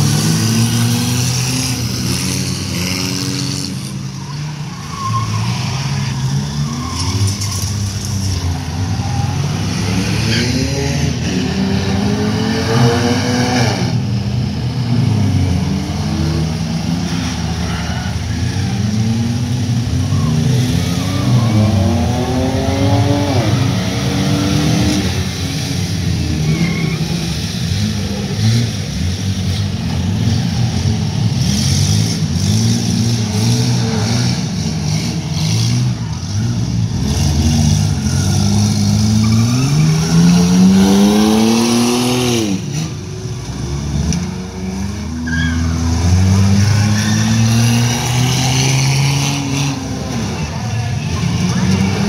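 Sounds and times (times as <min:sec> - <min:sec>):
car engines racing: 0:00.0 - 0:52.0.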